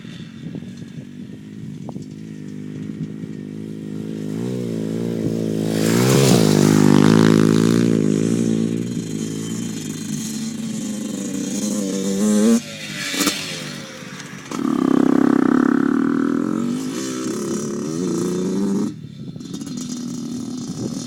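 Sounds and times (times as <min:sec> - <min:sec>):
dirt bike engine approaching: 0:00.0 - 0:21.0.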